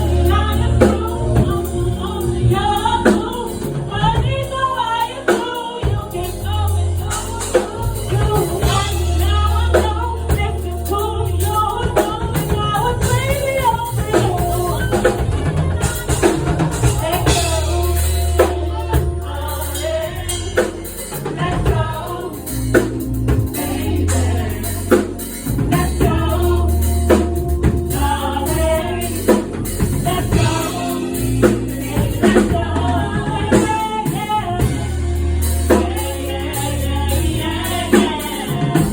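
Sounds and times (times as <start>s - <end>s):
band playing: 0.0s - 38.9s
deep bass line: 0.0s - 38.9s
person singing: 0.0s - 38.9s
drum kit hits: 7.2s - 38.9s.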